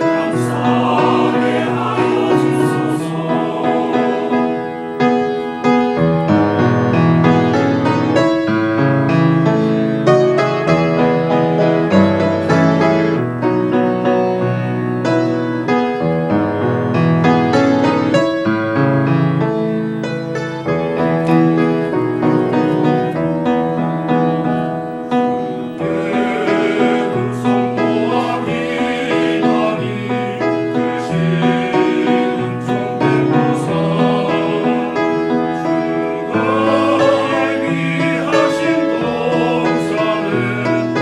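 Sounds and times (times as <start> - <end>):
church choir singing: 0.0 - 41.0
piano playing hymn accompaniment: 0.0 - 41.0.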